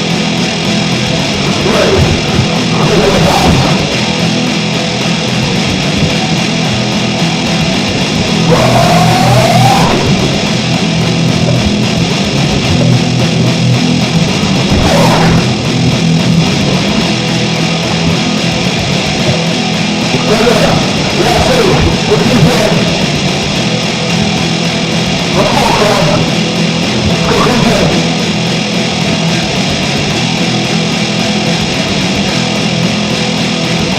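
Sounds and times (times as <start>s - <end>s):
heavy rock music: 0.0s - 33.9s.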